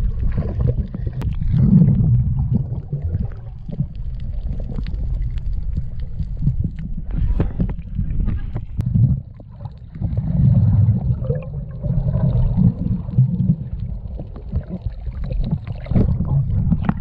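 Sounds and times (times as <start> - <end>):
underwater seawater rumble and sloshing: 0.0 - 17.0.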